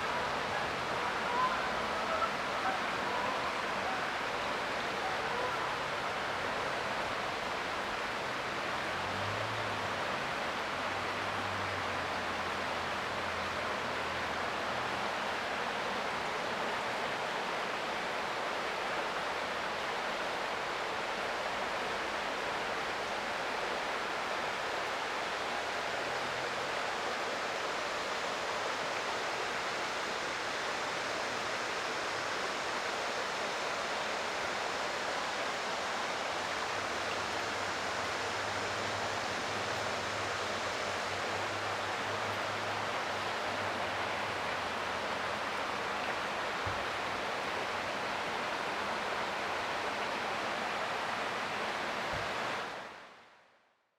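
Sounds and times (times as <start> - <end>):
creek water flowing: 0.0 - 53.3.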